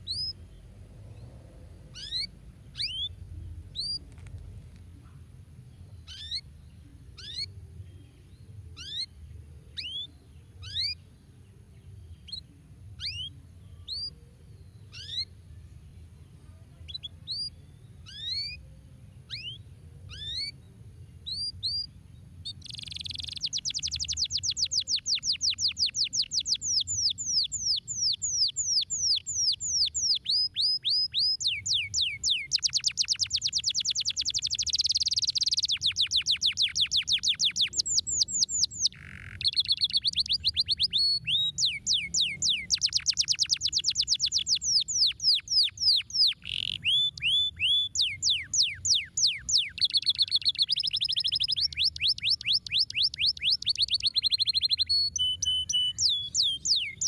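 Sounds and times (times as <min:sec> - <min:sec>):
canary singing trills: 0:00.0 - 0:04.2, 0:05.8 - 0:15.5, 0:16.5 - 0:57.0.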